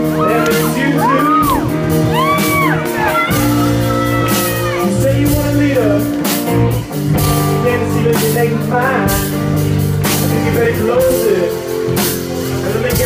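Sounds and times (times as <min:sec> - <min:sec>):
electric guitar lead lines: 0:00.0 - 0:13.0
live rock band playing: 0:00.0 - 0:13.0.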